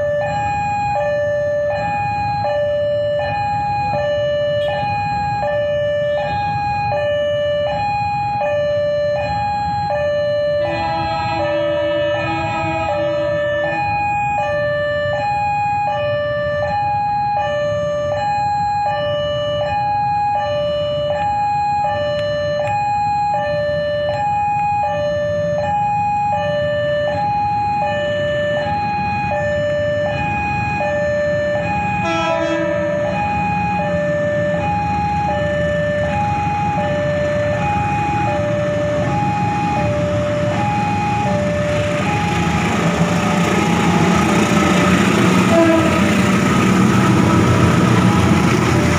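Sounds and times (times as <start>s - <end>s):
diesel locomotive rumble: 0.0s - 18.6s, 23.6s - 48.9s
level crossing two-tone alarm: 0.0s - 48.9s.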